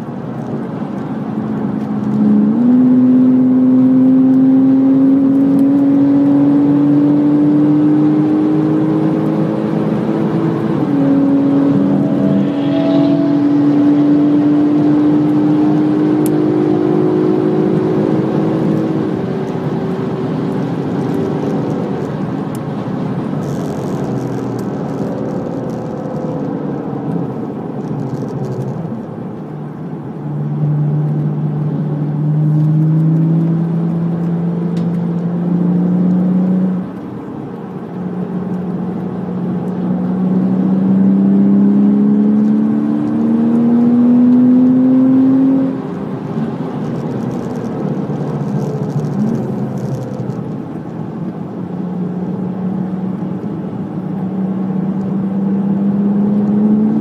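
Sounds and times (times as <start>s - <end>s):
car engine revving: 0.0s - 57.0s
wind and tyre noise: 0.0s - 57.0s.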